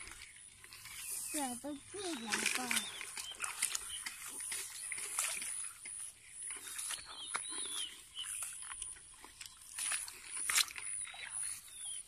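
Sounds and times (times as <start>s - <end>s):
footsteps through wet grass: 0.0s - 12.0s.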